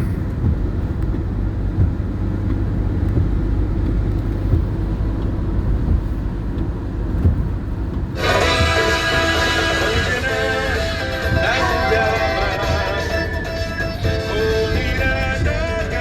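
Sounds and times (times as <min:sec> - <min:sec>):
road and engine rumble in cabin: 0:00.0 - 0:16.0.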